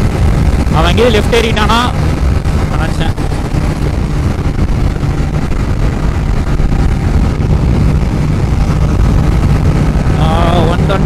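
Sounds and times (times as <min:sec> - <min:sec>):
motorcycle engine at full throttle: 0:00.0 - 0:11.0
wind rushing over microphone: 0:00.0 - 0:11.0.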